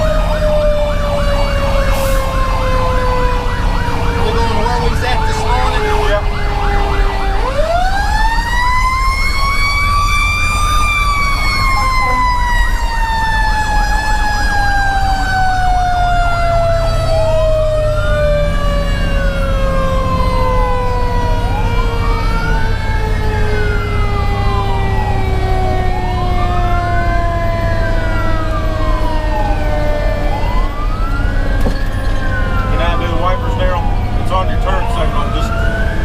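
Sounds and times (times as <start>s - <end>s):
diesel engine rumble: 0.0s - 36.0s
electronic siren yelp and wail: 0.0s - 36.0s
mechanical siren winding down: 0.0s - 36.0s.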